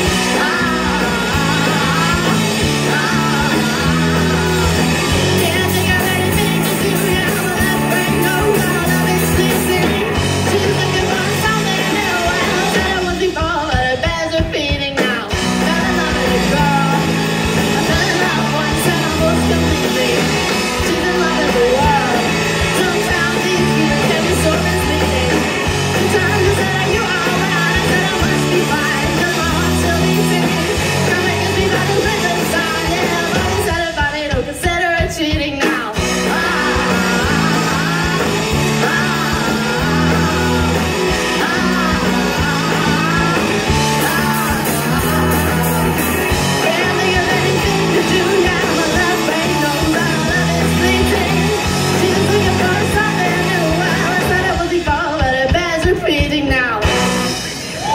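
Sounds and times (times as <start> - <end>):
girl singing lead vocal: 0.0 - 57.0
rock band playing: 0.0 - 57.9.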